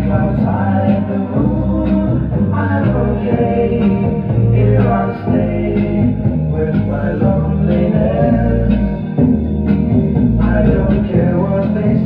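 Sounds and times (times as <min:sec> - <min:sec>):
jukebox song with singing and guitar: 0:00.0 - 0:12.0.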